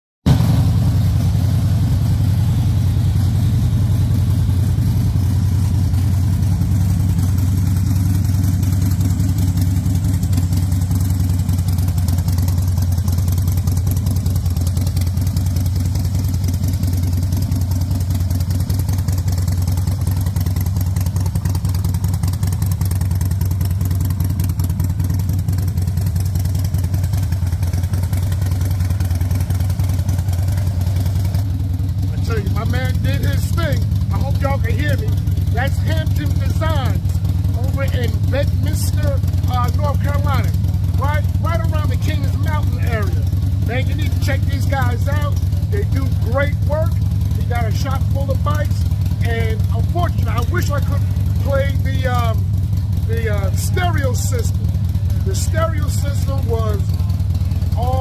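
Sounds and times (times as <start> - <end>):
motorcycle engine idling: 0.3 - 58.0.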